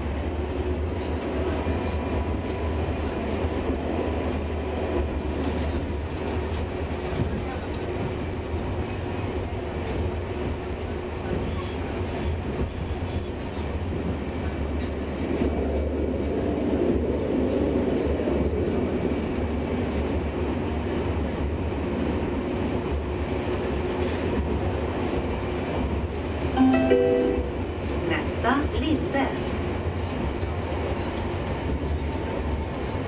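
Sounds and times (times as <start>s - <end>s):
wheels rumbling on rail: 0.0s - 33.0s.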